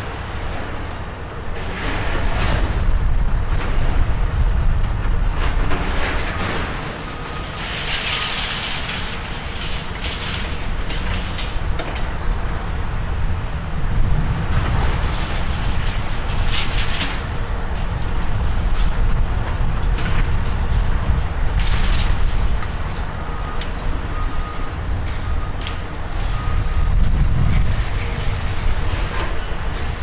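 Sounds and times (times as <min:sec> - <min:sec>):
excavator engine rumbling: 0:00.0 - 0:30.0.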